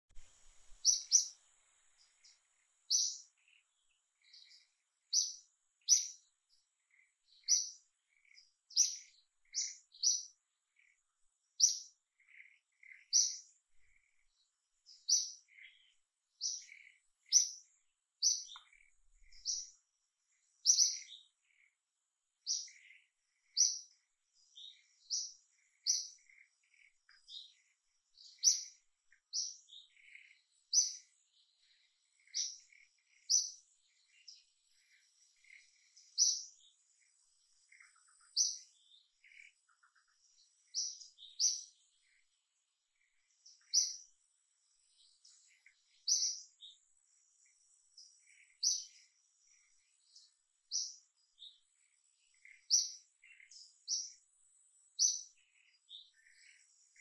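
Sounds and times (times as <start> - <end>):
small bird chirping: 0.0 - 57.0.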